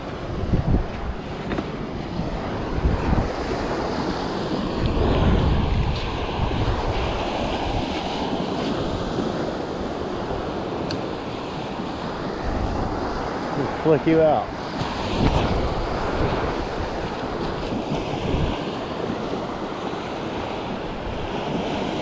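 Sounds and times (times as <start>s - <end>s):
surf washing on beach: 0.0s - 22.0s
wind buffeting microphone: 0.0s - 22.0s.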